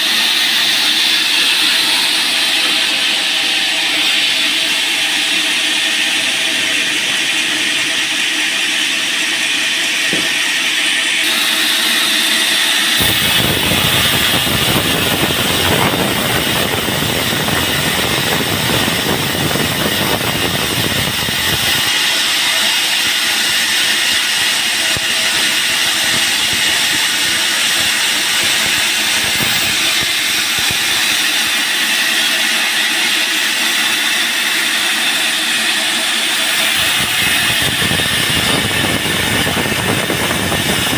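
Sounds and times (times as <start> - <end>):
band sawmill sawing a log: 0.0 - 40.9
deeper fuller noise: 0.0 - 40.9.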